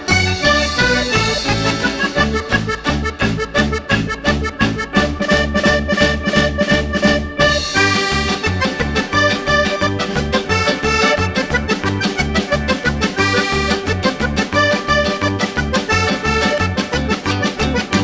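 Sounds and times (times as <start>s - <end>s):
upbeat music with bass beat: 0.0s - 18.0s.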